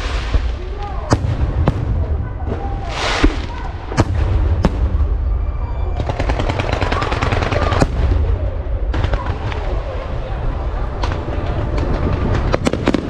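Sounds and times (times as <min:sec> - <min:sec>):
fireworks crackling: 0:00.0 - 0:05.4, 0:06.0 - 0:13.0
fireworks bangs: 0:00.0 - 0:13.0.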